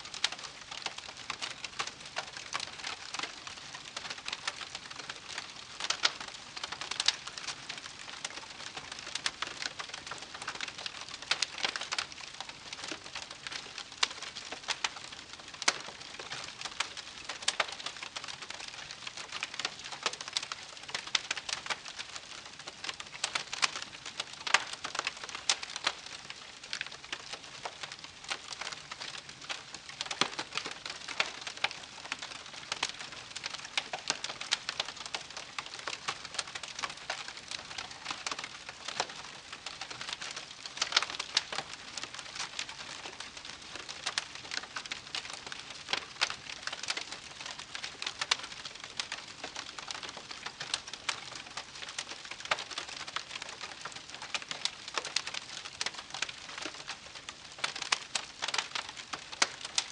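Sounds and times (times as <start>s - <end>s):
campfire crackling and popping: 0.1s - 59.9s.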